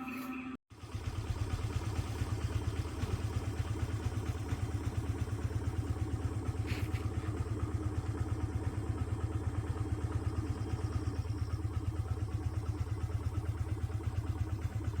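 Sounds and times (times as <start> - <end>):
engine throbbing steadily: 0.7 - 15.0.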